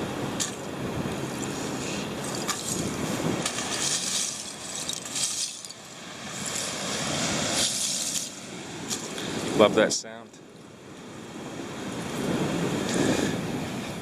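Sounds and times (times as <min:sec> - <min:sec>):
ocean surf washing onto shore: 0:00.0 - 0:14.0.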